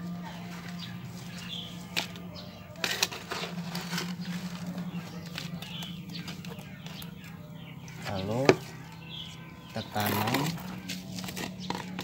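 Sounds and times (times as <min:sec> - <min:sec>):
rustling and scraping of soil: 0:00.0 - 0:12.0
steady low hum: 0:00.0 - 0:12.0.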